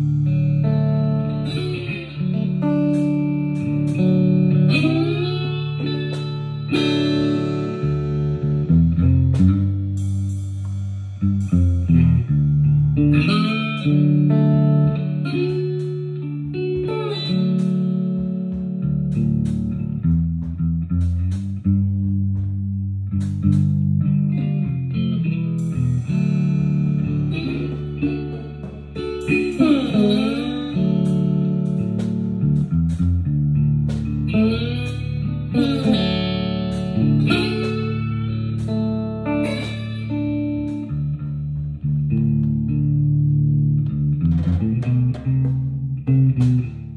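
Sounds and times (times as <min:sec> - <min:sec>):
bass: 0:00.0 - 0:46.9
drums: 0:00.0 - 0:46.9
electric guitar lead: 0:00.0 - 0:46.9.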